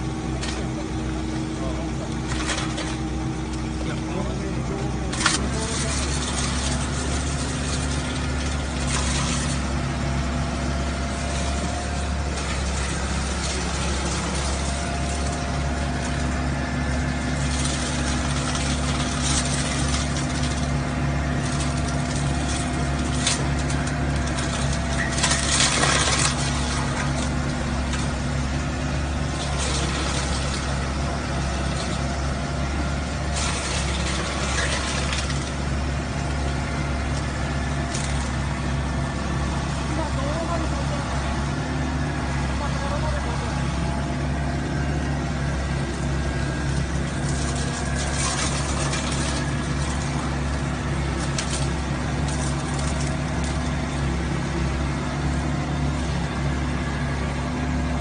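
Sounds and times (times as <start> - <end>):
excavator diesel engine running: 0.0 - 58.0
wood chipper bursts: 0.0 - 58.0.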